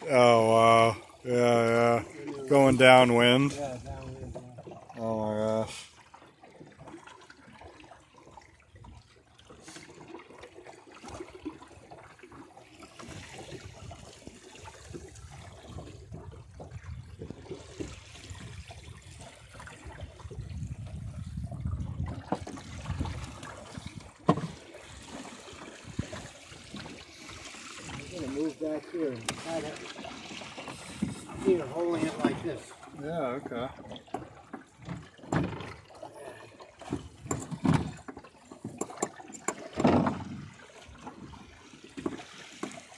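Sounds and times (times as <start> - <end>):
water lapping along a hull: 0.0 - 42.9.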